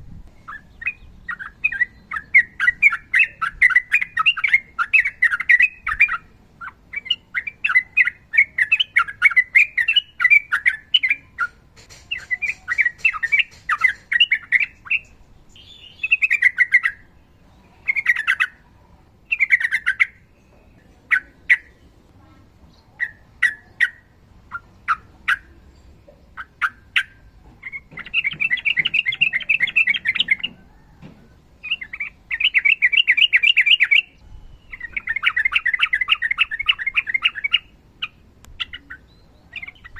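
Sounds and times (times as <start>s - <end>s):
bulbul singing and trilling: 0.1s - 39.9s.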